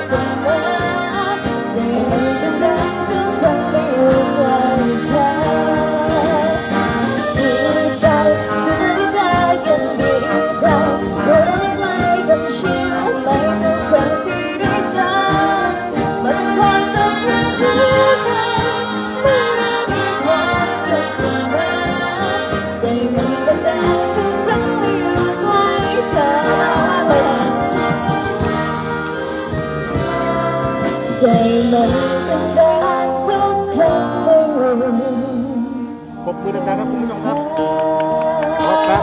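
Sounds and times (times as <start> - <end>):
woman singing into microphone: 0.0 - 28.8, 30.4 - 39.0.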